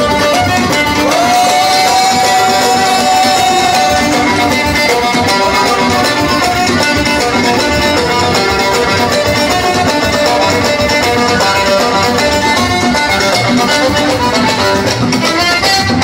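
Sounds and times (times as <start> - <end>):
oud plucking a melody: 0.0 - 16.0
steady beat: 0.0 - 16.0
violin: 0.0 - 16.0.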